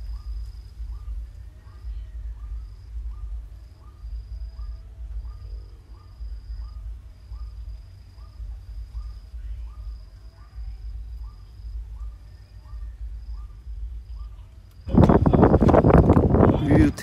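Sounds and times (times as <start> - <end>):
high insect trill: 0.0 - 17.0
low rumble: 0.0 - 17.0.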